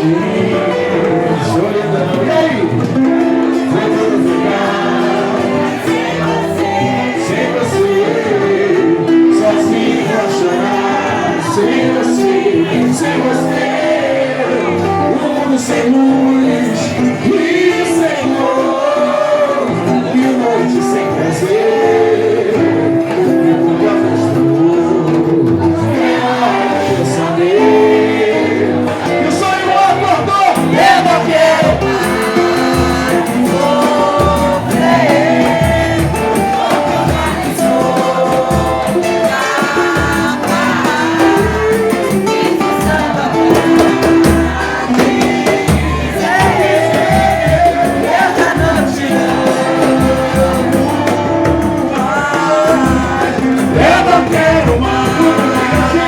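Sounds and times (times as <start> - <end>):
lead vocal singing: 0.0 - 56.0
samba band playing: 0.0 - 56.0.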